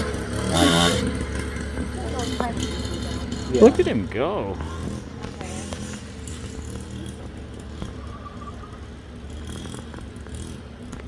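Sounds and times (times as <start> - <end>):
dirt bike engine buzzing: 0.0 - 11.0.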